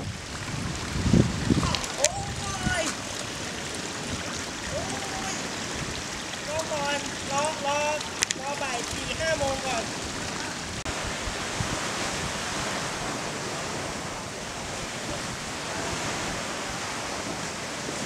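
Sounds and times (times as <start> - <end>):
sea surf: 0.0 - 18.0
wind: 0.0 - 18.0
wind buffeting microphone: 0.0 - 18.0.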